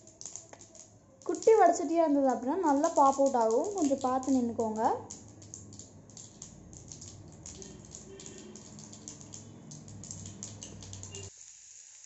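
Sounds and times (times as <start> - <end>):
mustard seeds popping in oil: 0.0 - 11.3.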